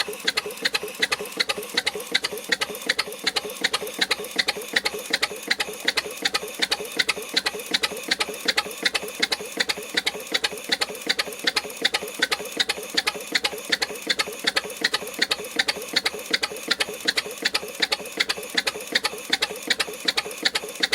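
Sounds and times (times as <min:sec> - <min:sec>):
stationary engine running: 0:00.0 - 0:20.9.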